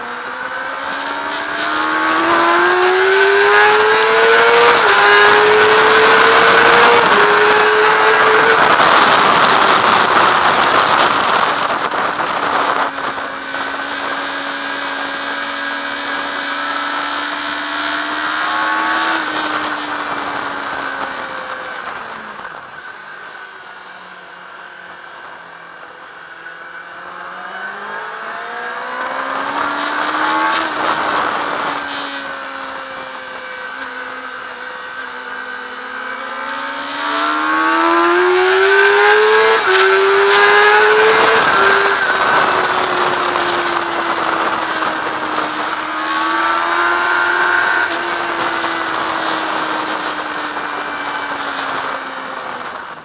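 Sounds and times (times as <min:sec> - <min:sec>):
wind rush over microphone: 0:00.0 - 0:23.1, 0:27.4 - 0:34.6, 0:36.1 - 0:53.0
motorcycle engine: 0:00.0 - 0:53.0.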